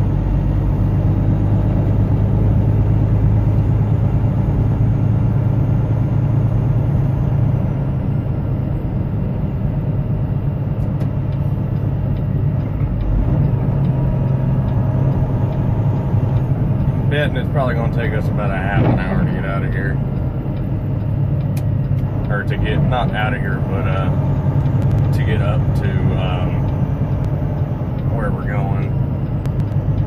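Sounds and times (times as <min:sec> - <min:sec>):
road noise hum: 0:00.0 - 0:30.0
truck engine running: 0:00.0 - 0:30.0.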